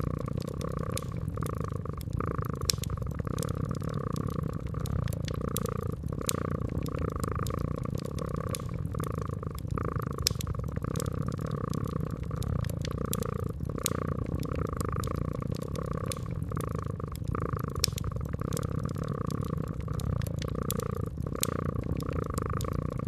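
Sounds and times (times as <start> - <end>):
cat purring: 0.0 - 23.0
wood fire crackling and popping: 0.0 - 23.0.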